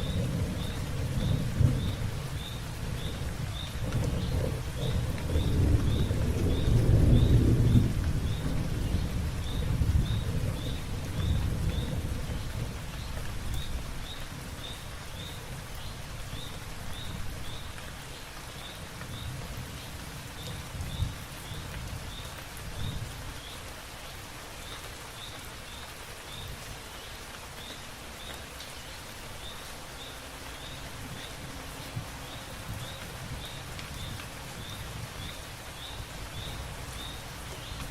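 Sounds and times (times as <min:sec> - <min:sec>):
light rain on leaves: 0:00.0 - 0:37.9.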